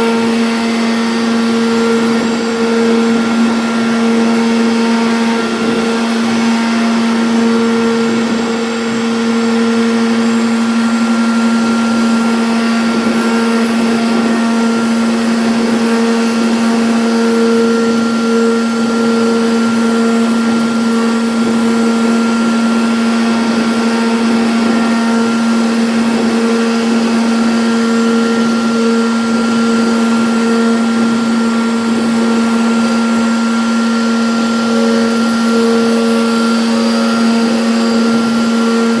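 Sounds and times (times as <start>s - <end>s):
router spindle whining: 0.0s - 39.0s.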